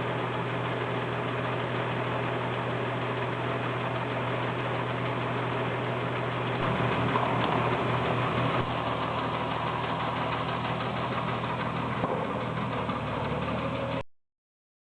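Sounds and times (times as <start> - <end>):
baler machinery noise: 0.0 - 14.0
tractor engine running: 0.0 - 14.0.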